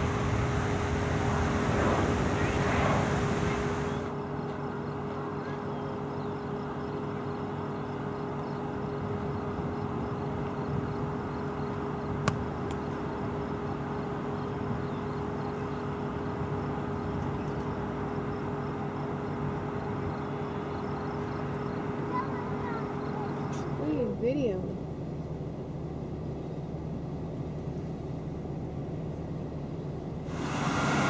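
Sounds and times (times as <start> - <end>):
jet engines idling: 0.0 - 31.0.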